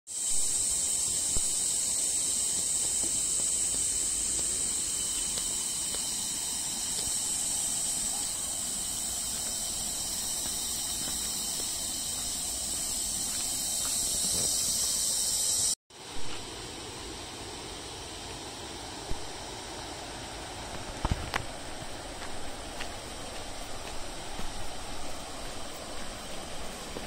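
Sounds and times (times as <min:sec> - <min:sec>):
insects droning shrilly: 0:00.1 - 0:27.0.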